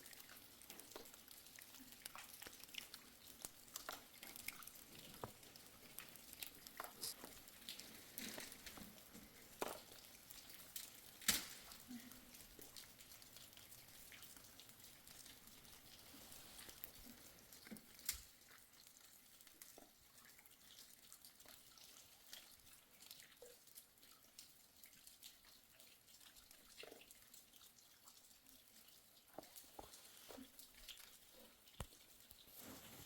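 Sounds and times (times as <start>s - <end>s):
water dripping: 0.0s - 33.0s.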